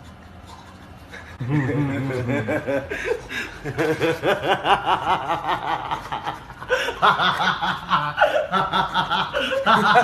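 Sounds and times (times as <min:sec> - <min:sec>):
men laughing: 0:01.3 - 0:10.0.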